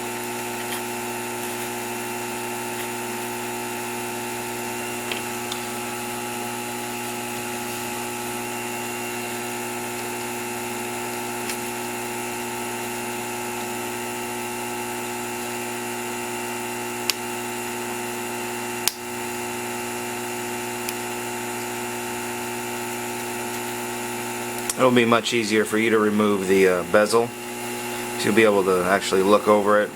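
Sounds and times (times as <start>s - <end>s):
steady electric hum: 0.0s - 29.9s.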